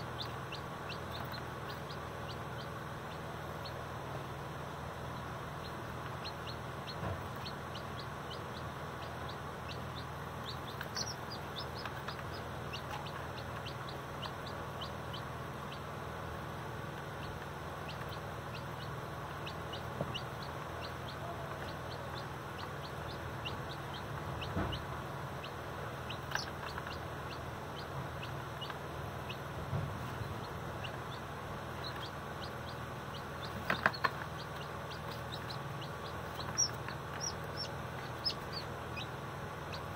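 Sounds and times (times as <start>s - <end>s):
chicks peeping: 0.0s - 39.9s
low steady hum: 0.0s - 39.9s.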